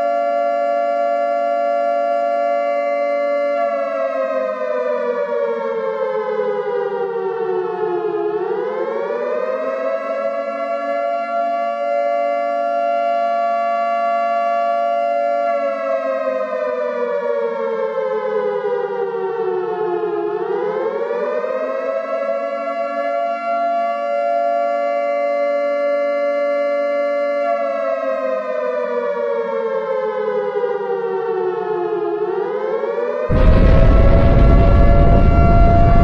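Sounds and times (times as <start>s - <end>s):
civil defense siren wailing: 0.0s - 36.0s.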